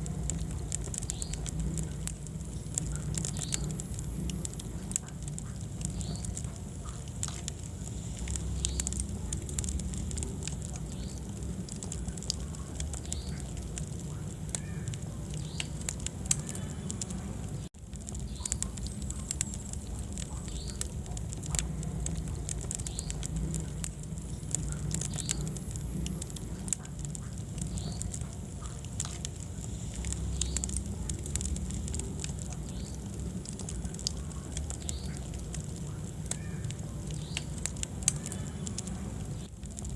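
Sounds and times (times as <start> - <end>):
burning logs crackling and popping: 0.0 - 39.9
fire rumbling: 0.0 - 39.9.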